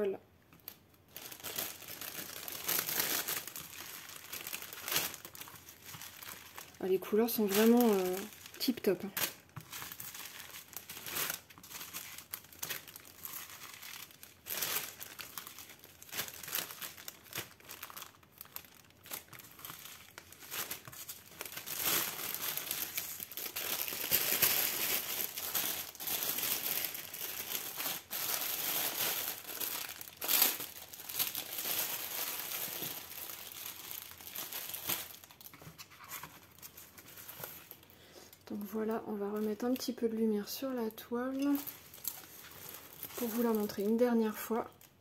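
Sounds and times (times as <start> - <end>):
thin plastic crinkling: 0.5 - 45.0.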